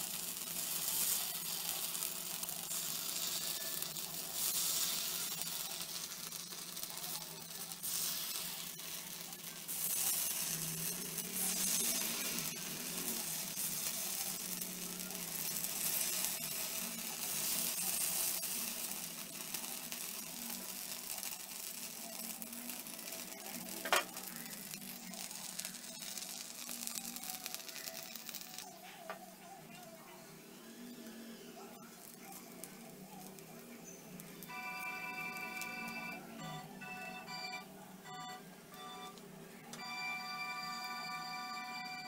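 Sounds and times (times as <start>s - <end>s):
batter sizzling in oil: 0.0s - 37.3s.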